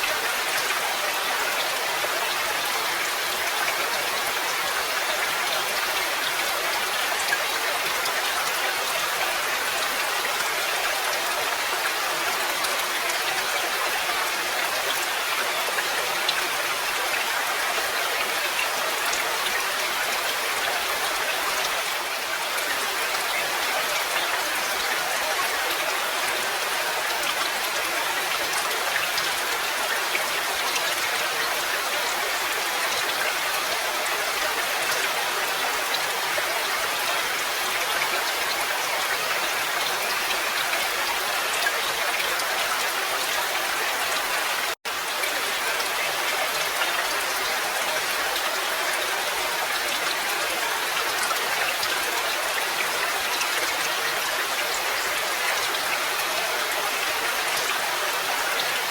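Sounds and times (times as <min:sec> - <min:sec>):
patter of raindrops: 0:00.0 - 0:58.9.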